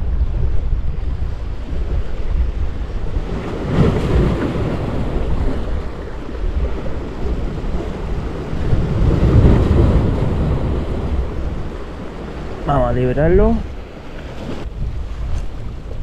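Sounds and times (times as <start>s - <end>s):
sea waves washing against breakwater: 0.0s - 16.0s
wind buffeting microphone: 0.0s - 16.0s.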